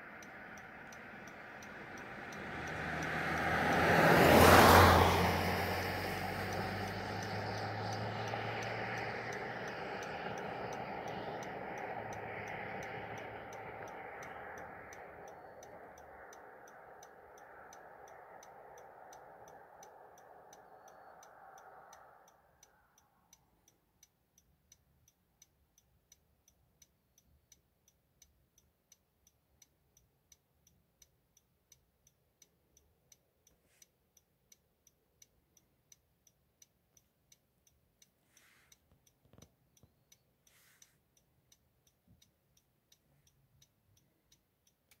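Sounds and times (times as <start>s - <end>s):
faint regular ticking: 0.0s - 45.0s.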